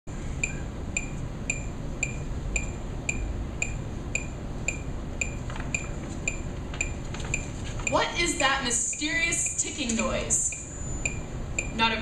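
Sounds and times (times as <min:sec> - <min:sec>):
steady low hum: 0:00.1 - 0:12.0
sharp metallic ticking: 0:00.4 - 0:07.5, 0:08.7 - 0:11.8.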